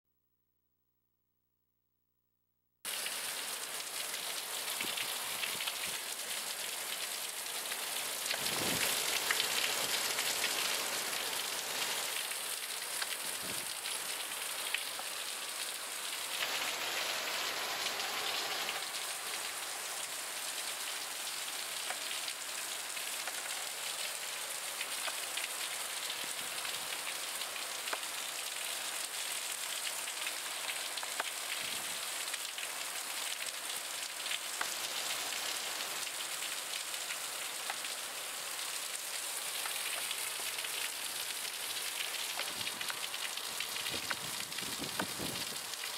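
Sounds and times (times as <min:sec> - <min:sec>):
heavy rain pouring: 0:02.9 - 0:45.9.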